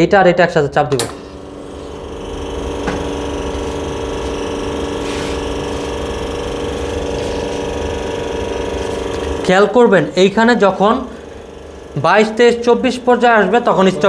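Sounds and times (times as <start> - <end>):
espresso machine pump humming: 1.0 - 14.0.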